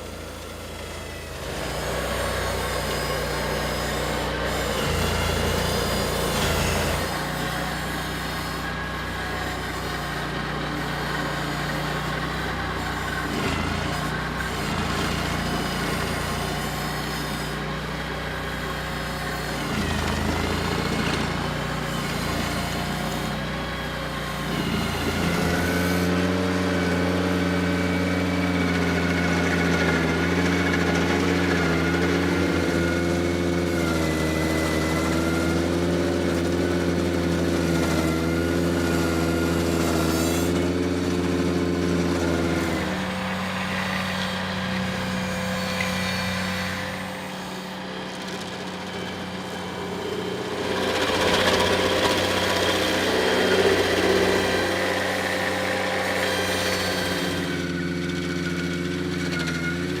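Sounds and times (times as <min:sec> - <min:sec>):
stump grinder: 0:00.0 - 1:00.0
tractor engine running: 0:00.0 - 1:00.0.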